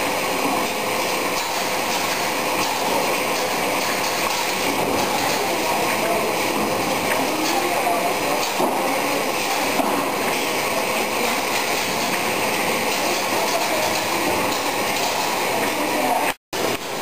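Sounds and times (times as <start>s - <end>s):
conveyor mechanical rattle: 0.0s - 17.0s.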